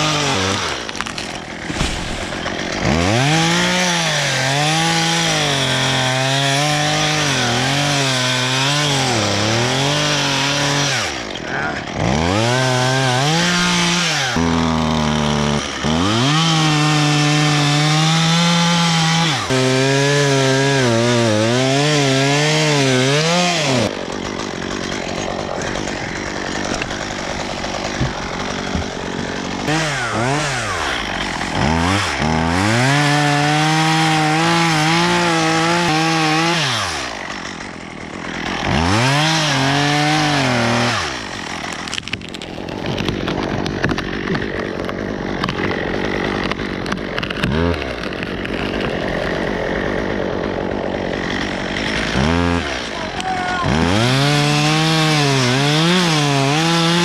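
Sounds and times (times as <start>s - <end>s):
chainsaw revving and cutting wood: 0.0s - 57.0s.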